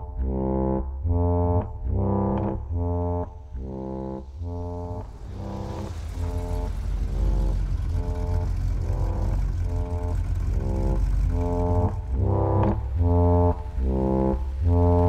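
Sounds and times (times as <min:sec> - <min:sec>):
brass music chords: 0:00.0 - 0:15.0
car engine rumbling: 0:01.6 - 0:15.0.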